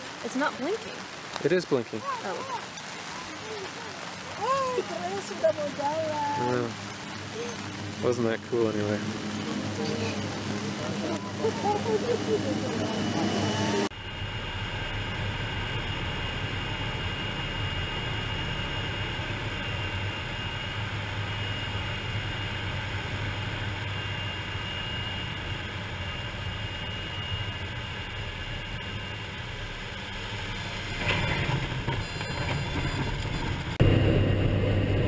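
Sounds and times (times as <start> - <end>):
turboprop engine droning: 2.9 - 35.0
aircraft rolling out rush: 3.1 - 35.0.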